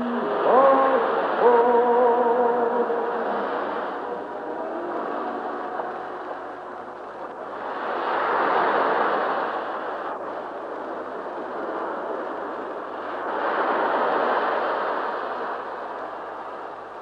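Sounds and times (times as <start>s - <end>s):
rushing noise: 0.0s - 16.4s.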